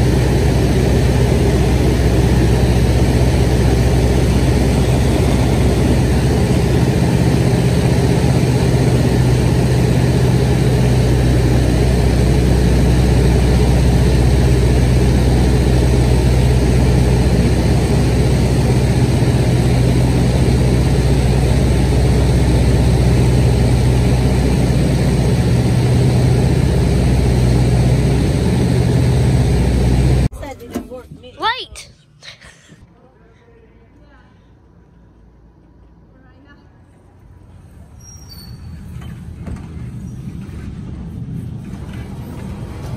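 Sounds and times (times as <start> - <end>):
light aircraft engine drone: 0.0 - 30.3, 34.3 - 42.9.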